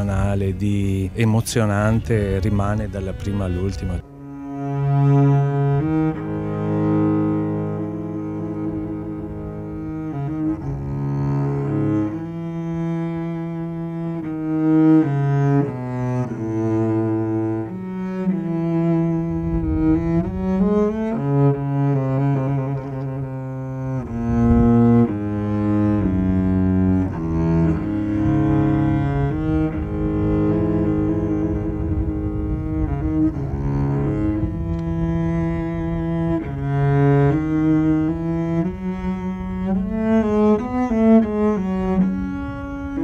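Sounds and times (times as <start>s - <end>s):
bowed cello notes: 0.0s - 43.0s.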